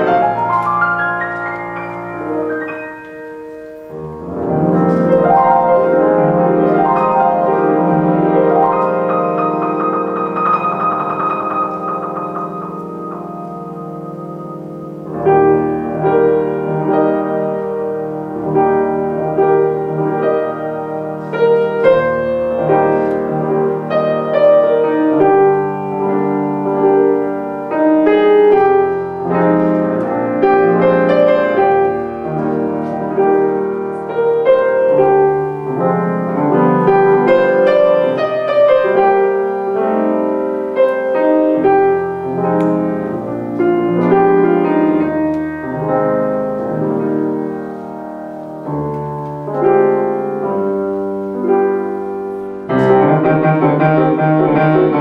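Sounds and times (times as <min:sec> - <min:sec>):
solo grand piano: 0:00.0 - 0:55.0.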